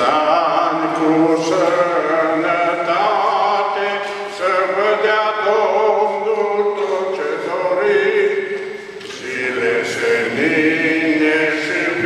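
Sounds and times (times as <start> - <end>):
group of voices singing: 0.0 - 12.0
man singing into microphone: 0.0 - 12.0.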